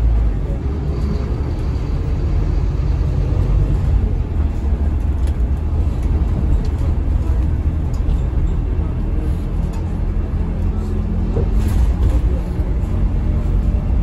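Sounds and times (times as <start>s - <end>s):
bus engine drone: 0.0s - 14.0s
road rumble: 0.0s - 14.0s.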